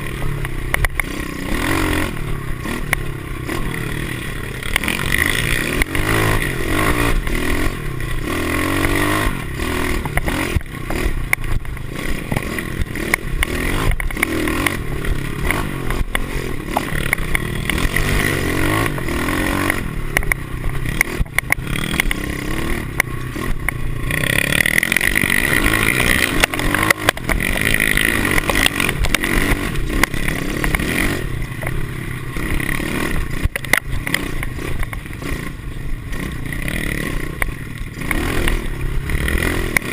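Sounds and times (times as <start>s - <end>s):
bike rattling and knocking: 0.0s - 39.9s
motorbike engine revving: 0.0s - 39.9s.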